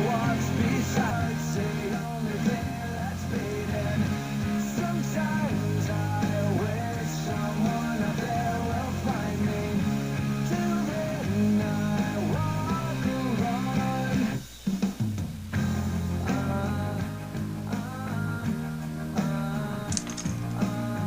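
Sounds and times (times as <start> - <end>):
rock music with singing: 0.0 - 21.0.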